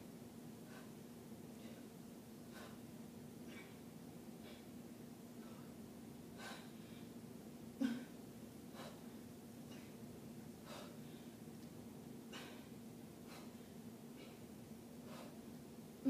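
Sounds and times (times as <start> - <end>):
steady low hum: 0.0 - 16.0
person breathing while exercising: 0.6 - 11.5, 12.3 - 15.7.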